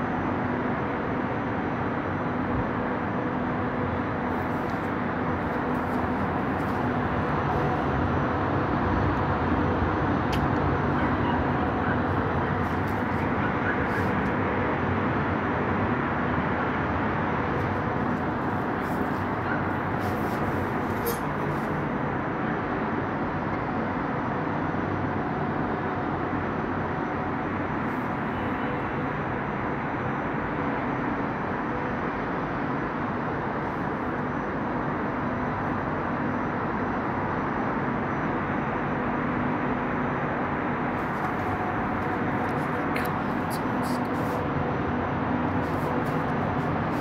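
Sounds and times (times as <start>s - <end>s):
distant city traffic: 0.0s - 47.0s.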